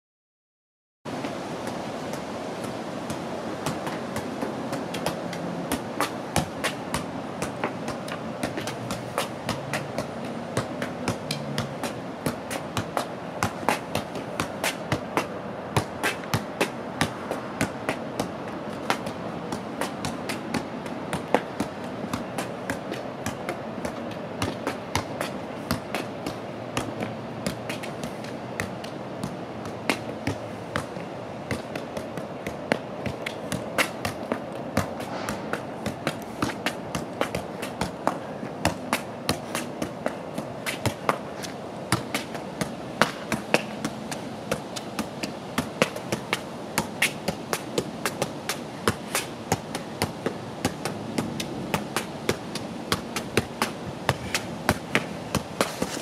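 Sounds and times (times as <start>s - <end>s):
soccer ball thuds on foot: 1.6s - 56.0s.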